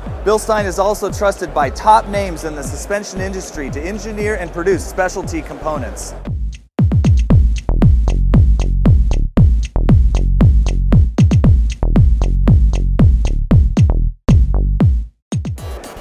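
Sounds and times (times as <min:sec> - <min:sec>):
electronic dance music: 0:00.0 - 0:14.5, 0:15.3 - 0:16.0.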